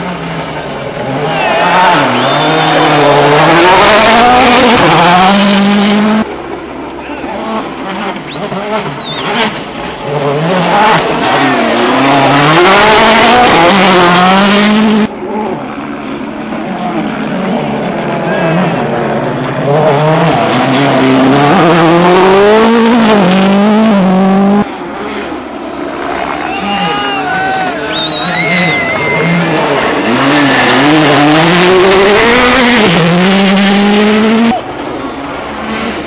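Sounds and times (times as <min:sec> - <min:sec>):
rally car engine revving hard: 0:00.0 - 0:06.3, 0:07.2 - 0:26.8, 0:27.5 - 0:34.6.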